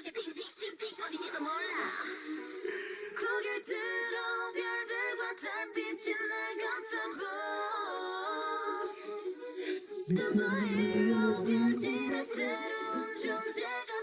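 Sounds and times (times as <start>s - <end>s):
pop song with female vocals: 0.0s - 14.0s.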